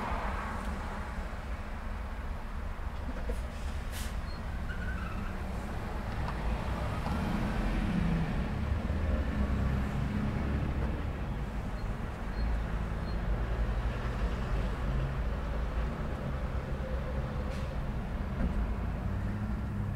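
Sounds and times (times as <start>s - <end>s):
road traffic rumble: 0.0s - 19.9s.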